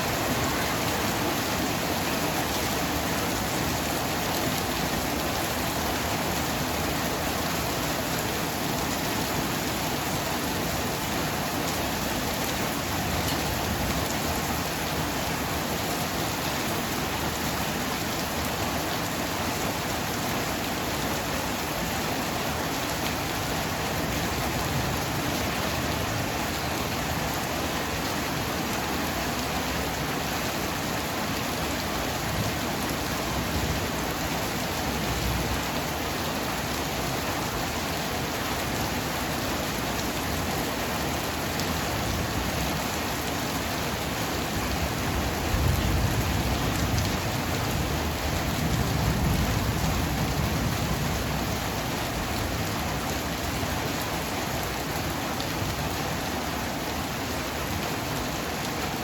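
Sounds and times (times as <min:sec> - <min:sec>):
heavy rain on surfaces: 0:00.0 - 0:59.0.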